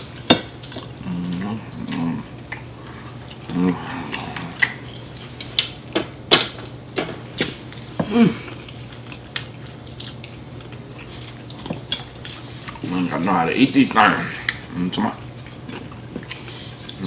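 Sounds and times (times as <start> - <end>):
chewing: 0.1 - 5.8, 7.4 - 13.0, 14.4 - 17.0.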